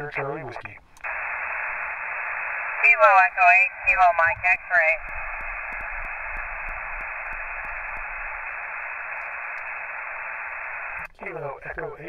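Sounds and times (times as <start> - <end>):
radio band noise hiss: 0.0 - 12.0.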